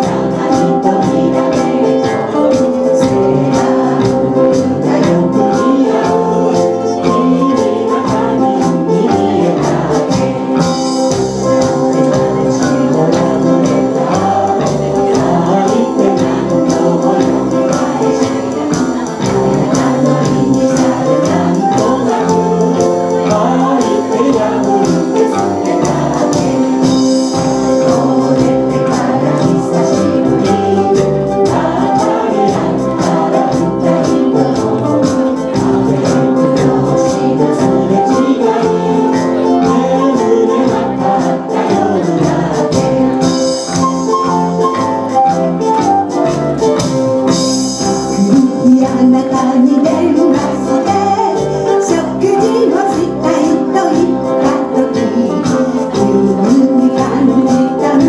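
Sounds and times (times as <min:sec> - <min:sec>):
woman and man singing: 0:00.0 - 0:44.4, 0:47.8 - 0:58.0
group singing along: 0:00.0 - 0:58.0
live band playing: 0:00.0 - 0:58.0.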